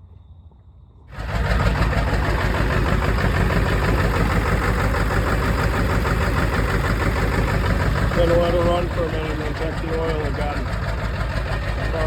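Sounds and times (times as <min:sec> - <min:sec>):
truck engine starting and idling: 0:01.1 - 0:12.0.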